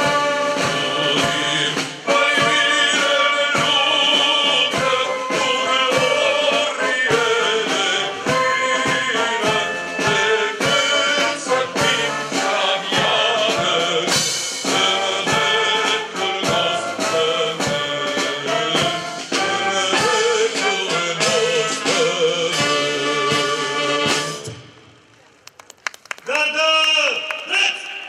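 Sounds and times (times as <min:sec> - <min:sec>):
brass band playing: 0:00.0 - 0:24.8.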